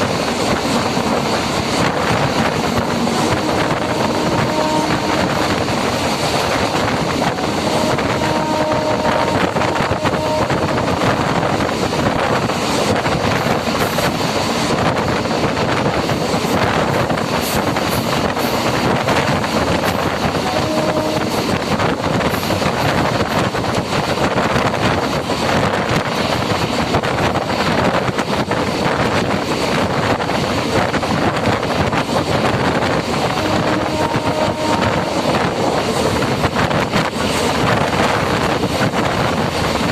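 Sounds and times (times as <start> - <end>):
electric train running rattle: 0.0 - 39.9.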